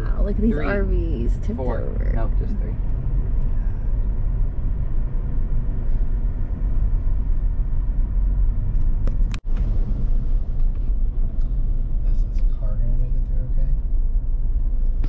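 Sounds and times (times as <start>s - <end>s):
car driving rumble inside cabin: 0.0s - 15.0s.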